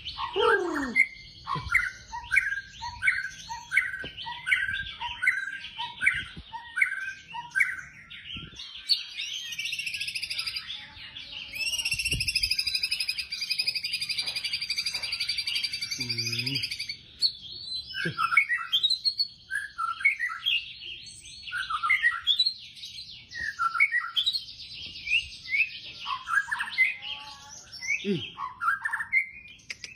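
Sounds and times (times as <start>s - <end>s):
songbird singing whistled notes and trills: 0.0s - 29.9s.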